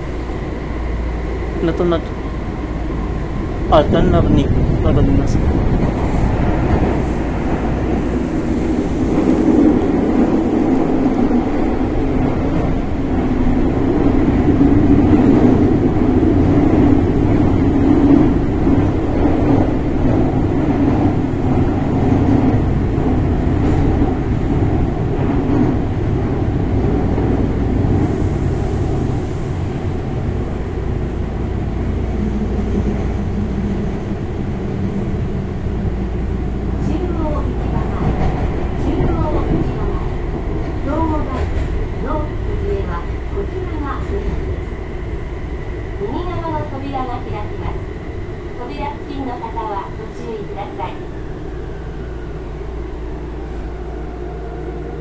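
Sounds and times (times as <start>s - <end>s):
train rumbling in a tunnel: 0.0s - 55.0s.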